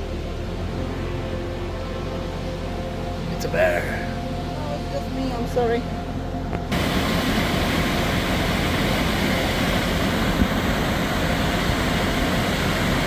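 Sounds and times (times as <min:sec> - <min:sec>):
roar of waterfall and rapids: 0:00.0 - 0:13.0.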